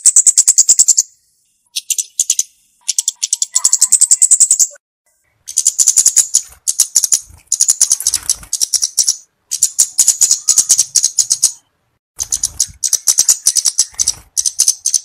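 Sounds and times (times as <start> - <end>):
bird calling with sharp ticks: 0.0 - 4.8, 5.5 - 11.6, 12.2 - 15.0.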